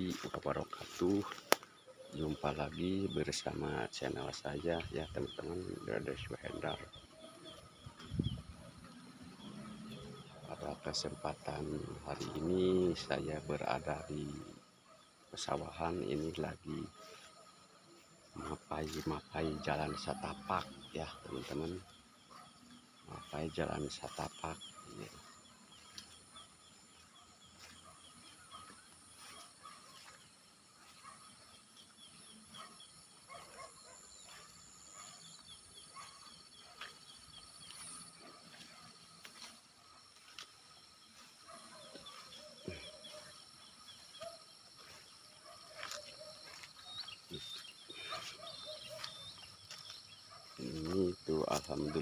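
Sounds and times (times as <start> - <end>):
high insect drone: 0.0 - 52.0.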